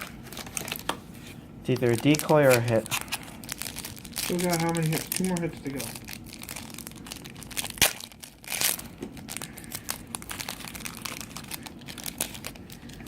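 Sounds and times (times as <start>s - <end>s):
foil wrapper crinkling: 0.0s - 0.9s, 1.7s - 13.0s.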